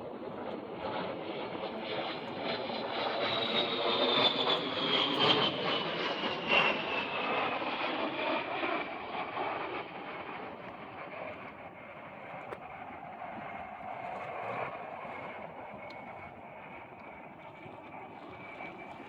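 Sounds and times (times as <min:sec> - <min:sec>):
jet engines whining: 0:00.0 - 0:19.0
jet rumble: 0:00.0 - 0:19.0.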